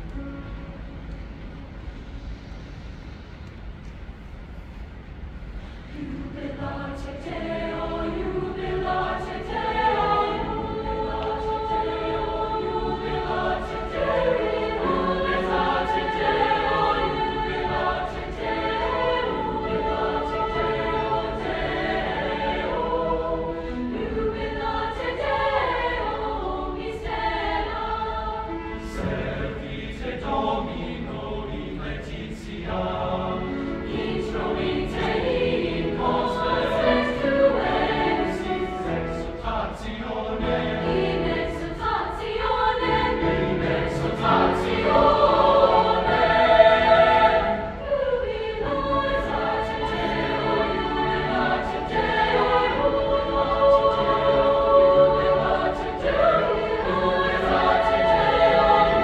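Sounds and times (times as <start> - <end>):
mixed choir singing in parts: 5.9 - 59.0.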